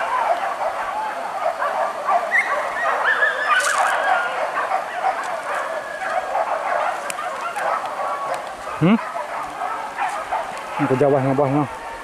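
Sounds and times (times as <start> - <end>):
distant hunting dogs baying: 0.0 - 12.0.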